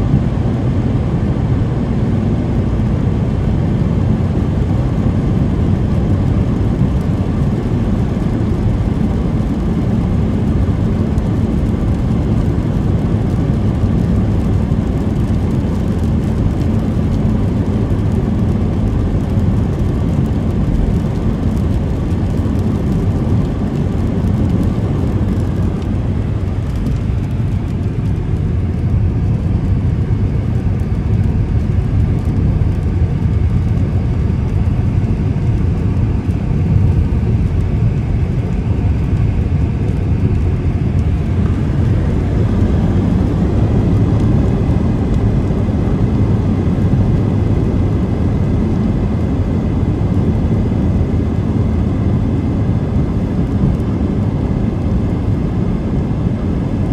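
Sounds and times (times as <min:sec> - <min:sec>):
car engine rumble: 0:00.0 - 0:56.9
tyres on wet road: 0:01.3 - 0:55.2.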